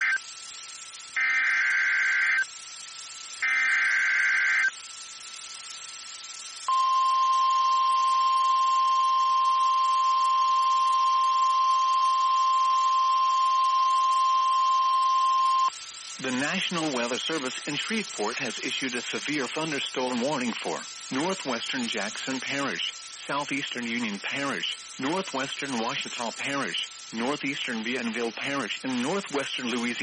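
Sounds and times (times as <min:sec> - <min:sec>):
buzzy digital data bursts: 0:00.0 - 0:30.0
steady alarm tone: 0:01.1 - 0:02.7, 0:03.4 - 0:04.7, 0:06.6 - 0:30.0.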